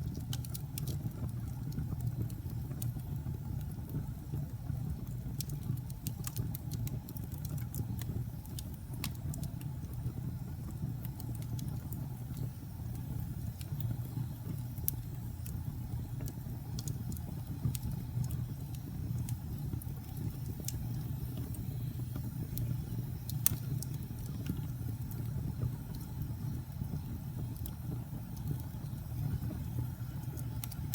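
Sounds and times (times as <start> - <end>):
fire crackling and rumbling: 0.0 - 30.9.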